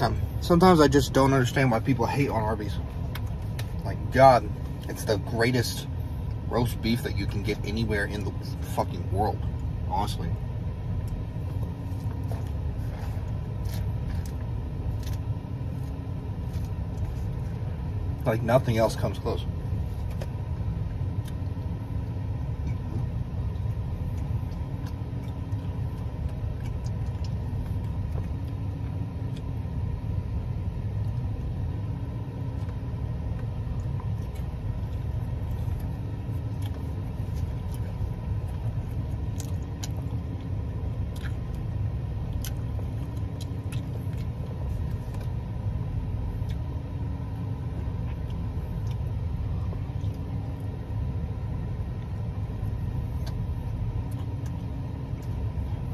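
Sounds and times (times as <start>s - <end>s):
car engine idling: 0.0s - 55.9s
faint hum: 0.0s - 55.9s.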